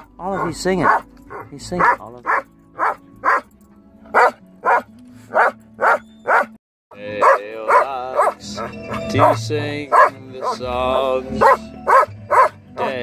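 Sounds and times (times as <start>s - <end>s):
dog barking: 0.0s - 3.5s, 4.1s - 6.6s, 7.2s - 10.6s, 11.4s - 13.0s.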